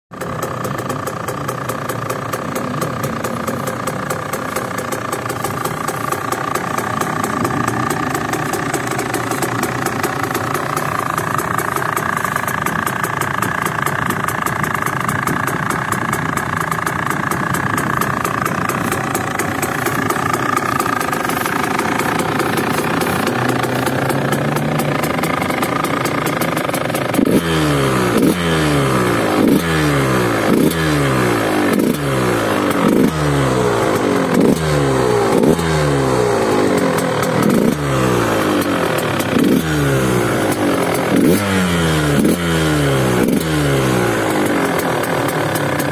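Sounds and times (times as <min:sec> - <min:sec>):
two-stroke engine idling and revving: 0:00.1 - 0:45.9.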